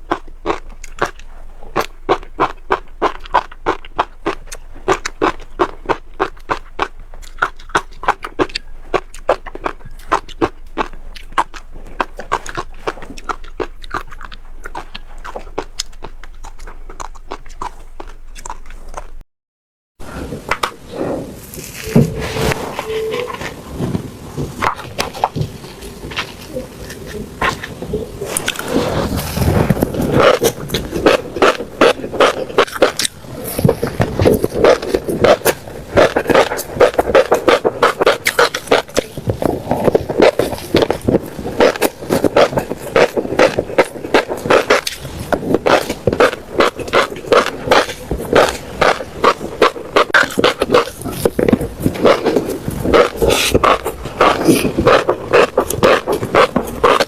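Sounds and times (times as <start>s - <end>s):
mouth chewing crunchy seeds: 0.0s - 19.2s, 20.1s - 57.0s.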